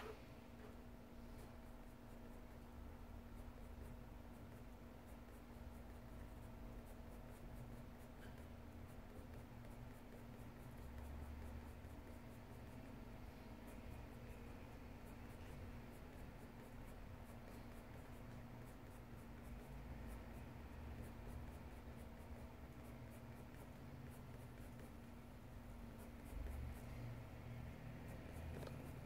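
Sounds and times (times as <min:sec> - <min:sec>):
pencil scratching on paper: 0:00.0 - 0:29.0.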